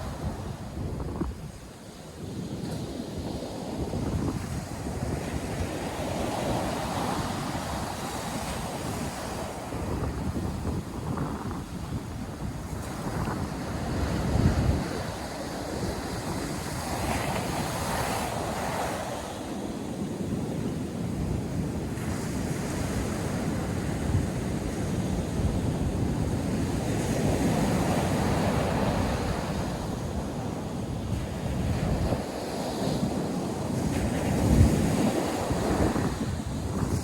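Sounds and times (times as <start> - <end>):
ocean surf breaking on beach: 0.0 - 37.0
wind buffeting microphone: 0.0 - 37.0.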